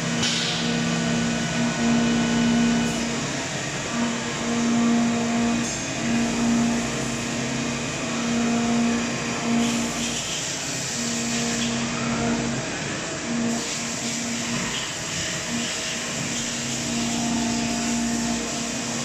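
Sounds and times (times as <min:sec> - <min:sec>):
milling cutter hiss and hum: 0:00.0 - 0:19.0.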